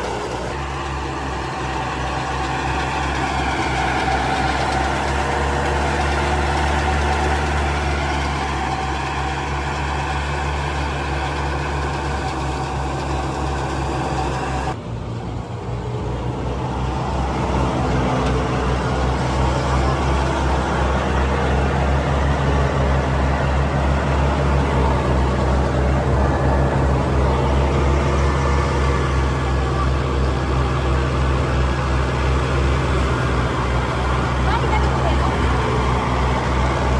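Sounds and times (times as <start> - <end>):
diesel engine hum: 0.0 - 36.9.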